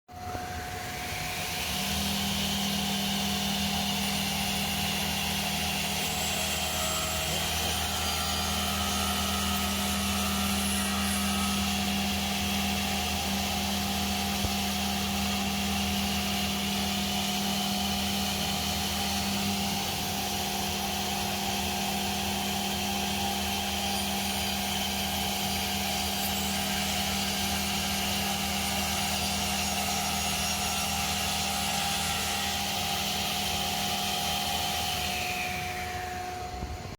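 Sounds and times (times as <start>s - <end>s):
cnc router running: 0.1s - 36.9s.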